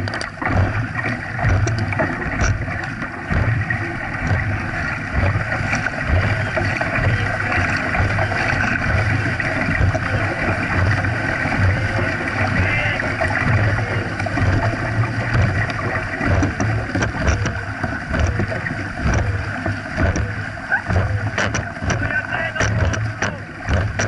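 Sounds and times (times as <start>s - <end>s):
paddles digging into water: 0.0s - 24.0s
water rushing and splashing: 0.0s - 24.0s.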